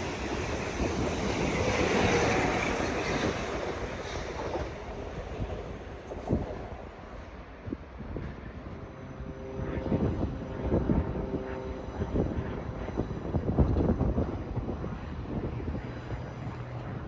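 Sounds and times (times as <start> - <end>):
train rumble and wheel clatter: 0.0 - 17.0
wind buffeting microphone: 0.0 - 17.0.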